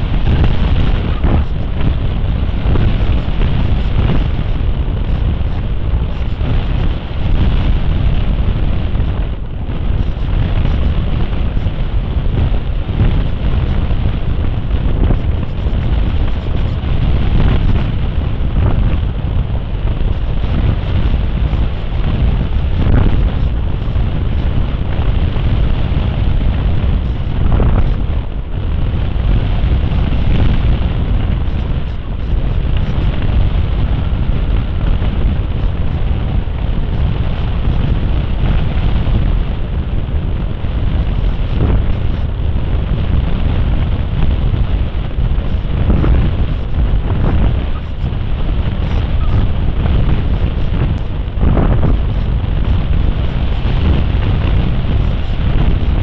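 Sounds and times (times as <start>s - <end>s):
model plane propeller noise: 0.0s - 56.0s
wind rushing over microphone: 0.0s - 56.0s.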